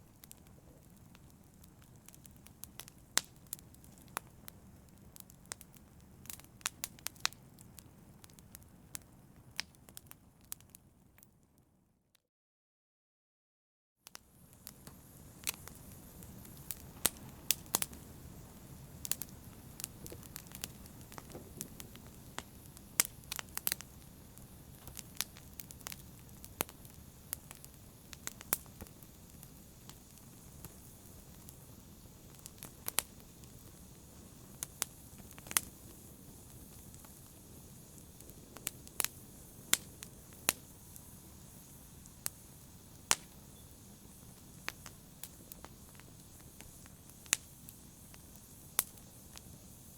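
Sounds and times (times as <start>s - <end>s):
fire rumbling: 0.0s - 11.2s, 14.2s - 49.9s
fire crackling and popping: 0.0s - 11.6s, 14.1s - 49.9s.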